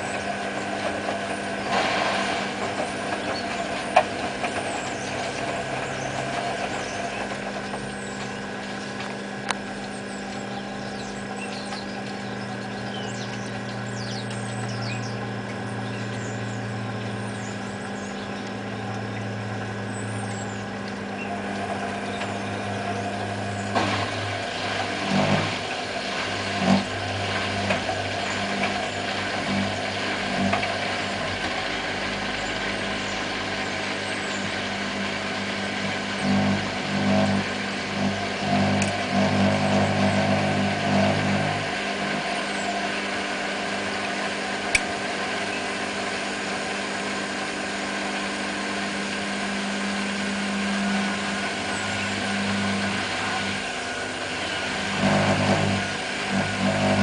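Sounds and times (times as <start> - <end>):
washing machine hum: 0.0 - 57.0.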